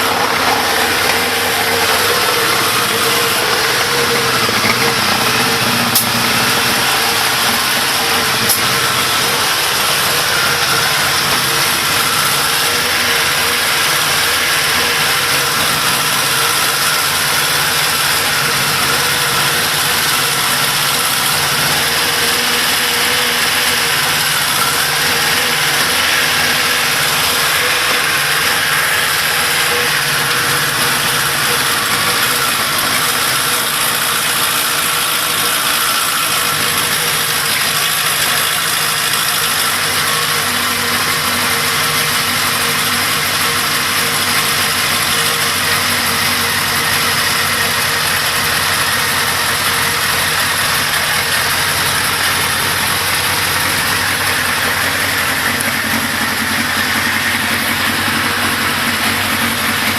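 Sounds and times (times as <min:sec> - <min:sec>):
mechanical noise in engine: 0:00.0 - 0:59.9
motorcycle engine idling: 0:00.0 - 0:59.9.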